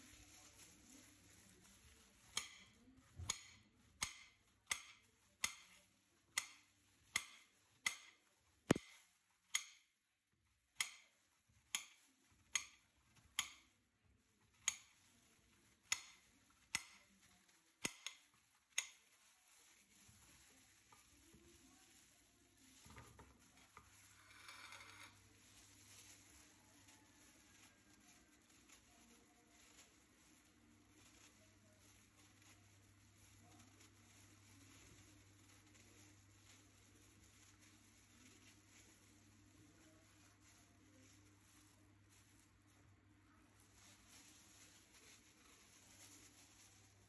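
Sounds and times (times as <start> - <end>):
faint handling noise: 0.0 - 47.0.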